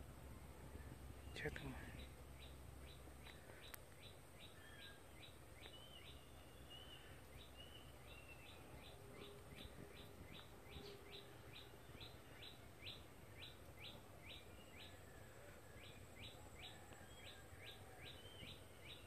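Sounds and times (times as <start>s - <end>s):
outdoor background noise: 0.0s - 19.0s
small bird chirping: 0.8s - 19.0s.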